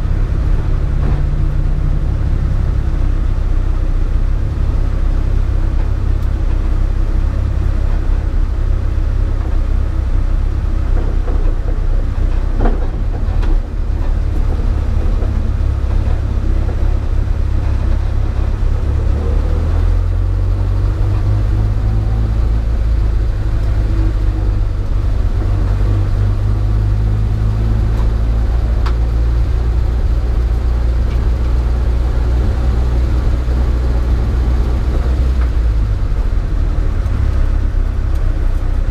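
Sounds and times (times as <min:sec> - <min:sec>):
rally car engine and road noise: 0:00.0 - 0:38.9.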